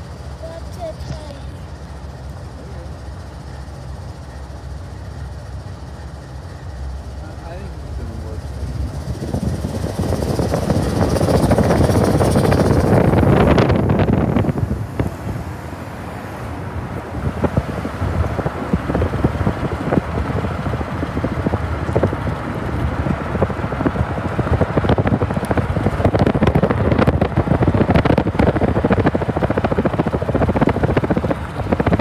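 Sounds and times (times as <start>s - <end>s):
car road noise: 0.0s - 32.0s
wind buffeting microphone: 4.6s - 32.0s.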